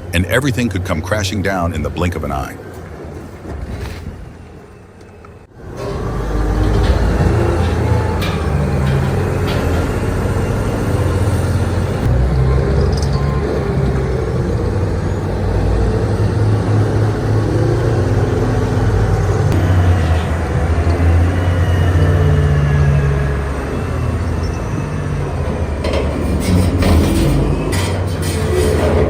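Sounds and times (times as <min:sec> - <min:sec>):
diesel engine under load: 0:00.0 - 0:29.0.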